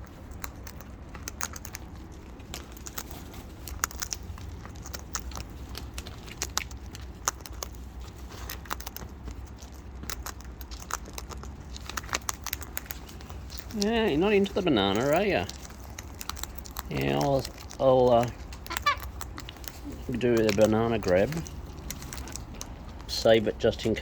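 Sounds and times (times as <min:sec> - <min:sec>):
beaks cracking food: 0:00.0 - 0:24.0
steady low hum: 0:00.0 - 0:24.0.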